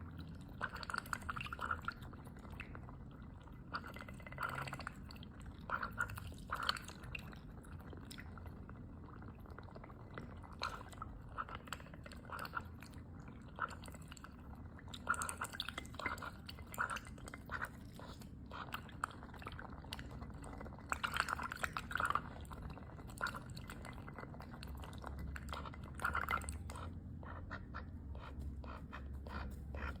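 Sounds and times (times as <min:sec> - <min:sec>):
duck bill clicking and slurping: 0:00.0 - 0:30.0
watery dabbling: 0:00.1 - 0:30.0.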